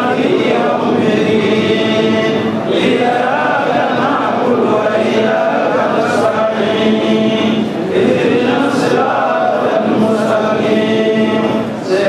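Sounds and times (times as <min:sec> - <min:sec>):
congregation chanting in unison: 0:00.0 - 0:12.0.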